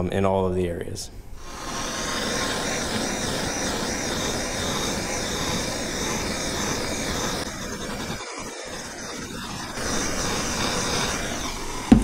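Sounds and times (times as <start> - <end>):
gas torch burning: 1.3 - 12.0.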